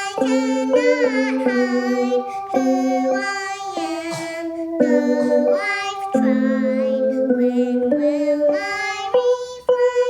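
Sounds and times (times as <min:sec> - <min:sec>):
child singing: 0:00.0 - 0:10.0
electronic keyboard bell notes: 0:00.0 - 0:10.0.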